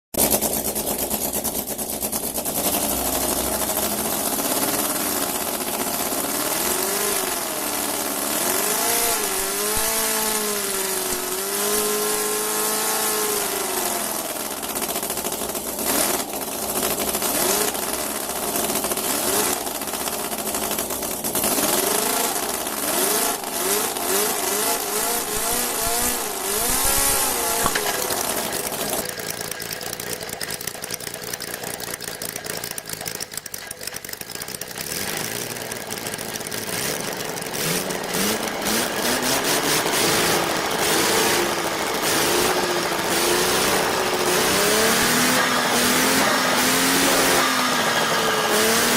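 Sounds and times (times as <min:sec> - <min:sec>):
small model engines revving: 0:00.2 - 0:48.9.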